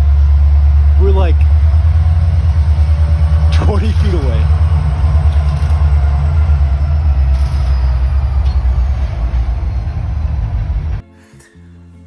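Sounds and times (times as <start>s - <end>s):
train passing rumble: 0.0s - 11.0s.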